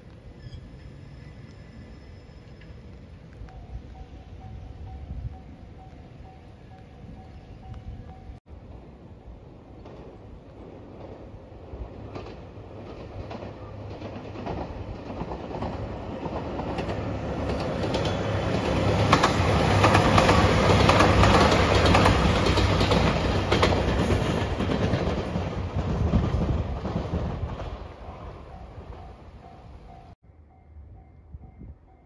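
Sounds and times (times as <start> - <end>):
diesel train passing: 0.0 - 32.0
rail joint clickety-clack: 0.1 - 8.9, 9.6 - 32.0.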